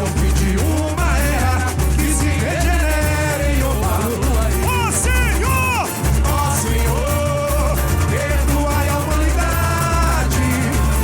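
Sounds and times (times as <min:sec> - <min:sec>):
deep bass drums: 0:00.0 - 0:11.0
voices singing: 0:00.0 - 0:11.0.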